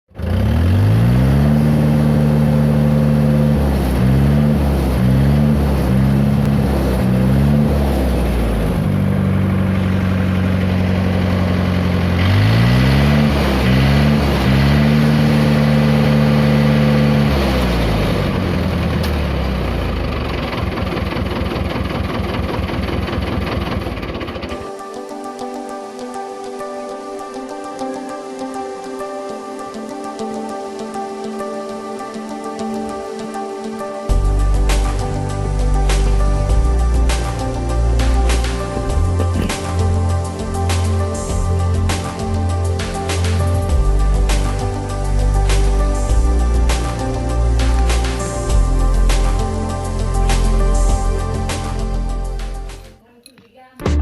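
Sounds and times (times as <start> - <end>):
tractor engine revving: 0.1 - 24.7, 34.1 - 52.8.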